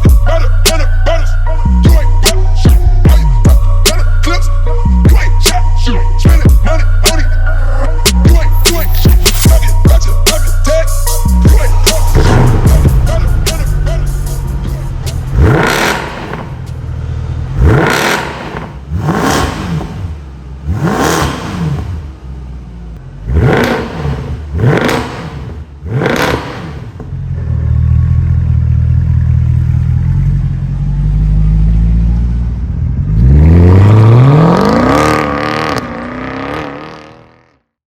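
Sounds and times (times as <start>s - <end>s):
car engine revving: 0.0s - 37.7s.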